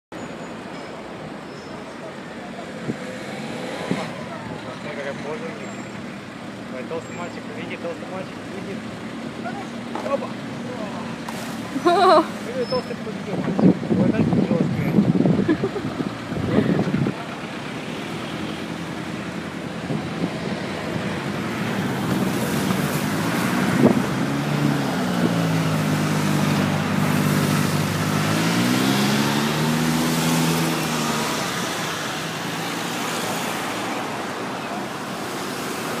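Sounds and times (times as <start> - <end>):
road traffic noise: 0.0 - 36.0
vehicle engine hum: 0.3 - 36.0.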